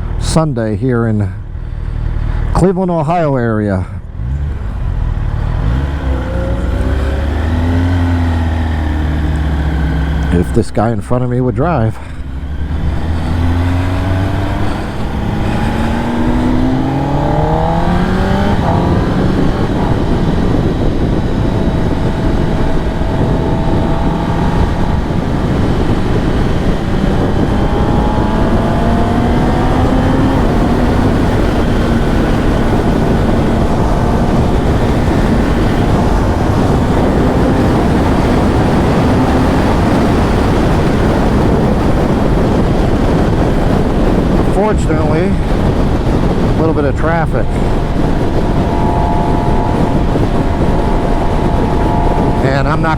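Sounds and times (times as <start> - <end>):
wind noise on microphone: 0.0 - 52.9
motorcycle engine accelerating: 1.2 - 52.9.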